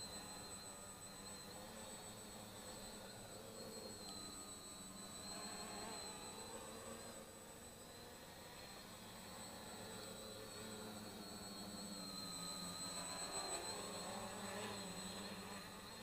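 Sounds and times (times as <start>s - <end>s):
quadcopter propellers buzzing: 0.0s - 16.0s.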